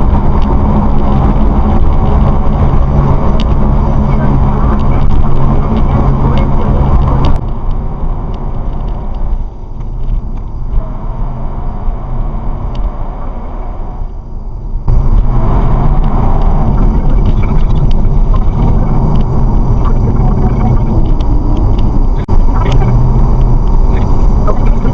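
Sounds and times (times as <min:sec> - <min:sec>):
car road and engine rumble: 0:00.0 - 0:24.9.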